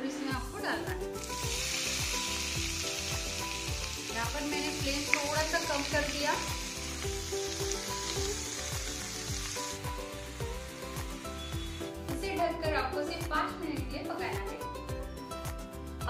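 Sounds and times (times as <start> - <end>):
carrots sizzling in hot ghee: 0.1 - 13.6.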